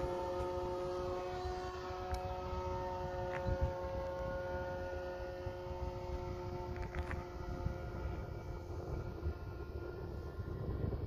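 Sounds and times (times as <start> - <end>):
electric motor and propeller whining: 0.0 - 11.0
wind on microphone: 0.0 - 11.0.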